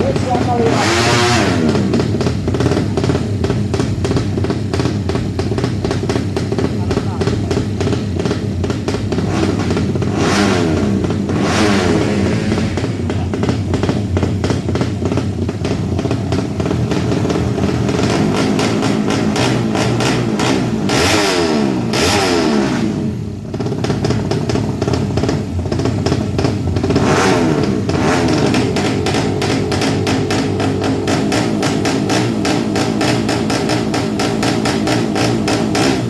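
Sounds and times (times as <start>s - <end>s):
motorcycle engines revving hard: 0.0s - 36.0s.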